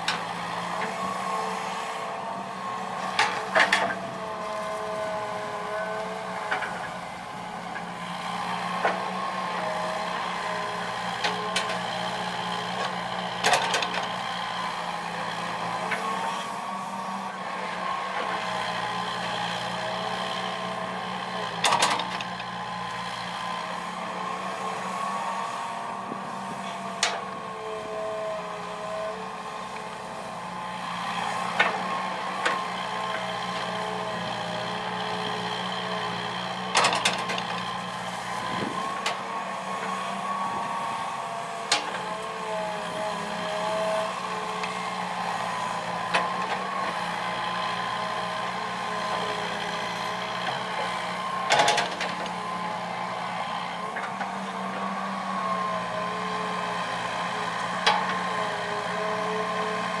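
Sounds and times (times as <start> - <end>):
excavator diesel engine: 0.0 - 60.0.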